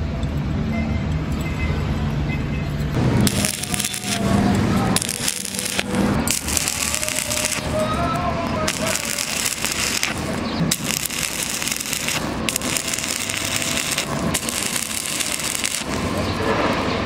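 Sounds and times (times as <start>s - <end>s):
welding arc crackling: 3.0s - 17.0s.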